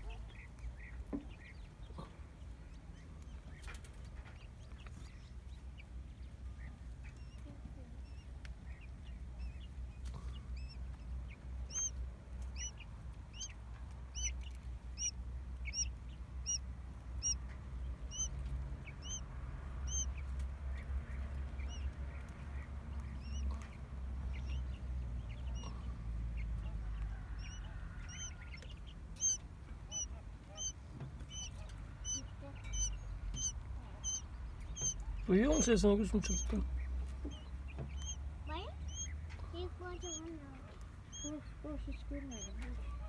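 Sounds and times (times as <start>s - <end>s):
chick peeping: 0.0s - 43.0s
steady low rumble: 0.0s - 43.0s.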